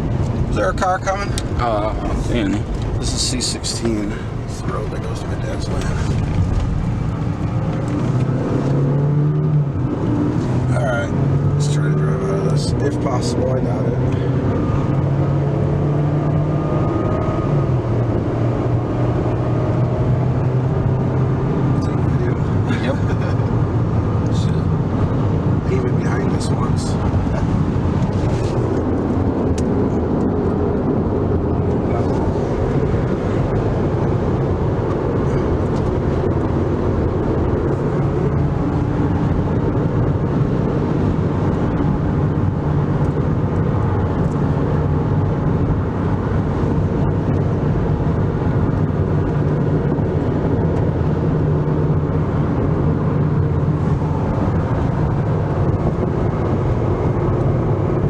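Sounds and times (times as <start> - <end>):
car interior road noise: 0.0 - 58.0.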